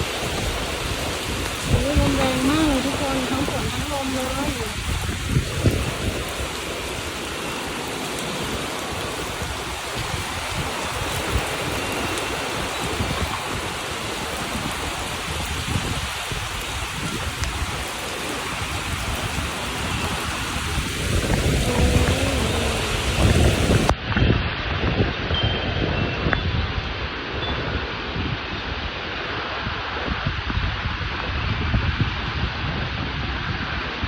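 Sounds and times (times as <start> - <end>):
heavy rain pouring: 0.0 - 34.0
wind rumbling on microphone: 0.0 - 34.0.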